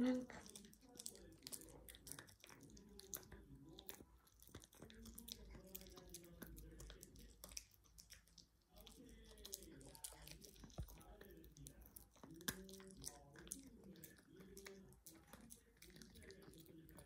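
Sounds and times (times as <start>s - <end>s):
dog gnawing on chew: 0.3s - 17.0s.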